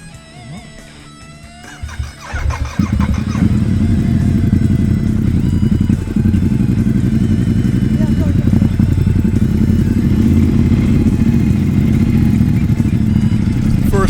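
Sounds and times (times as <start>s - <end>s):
guitar music: 0.0s - 14.0s
motorcycle engine running: 1.6s - 14.0s.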